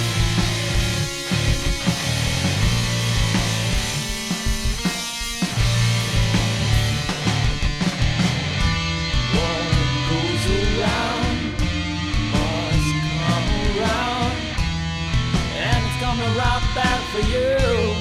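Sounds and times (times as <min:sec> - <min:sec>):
bending lead guitar line: 0:00.0 - 0:18.0
rock band playing: 0:00.0 - 0:18.0.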